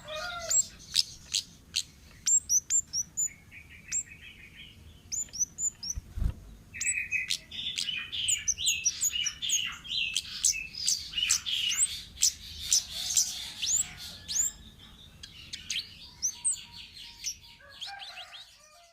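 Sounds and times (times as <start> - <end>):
bird chirping and whistling: 0.4 - 4.3, 5.1 - 6.0, 6.8 - 17.6.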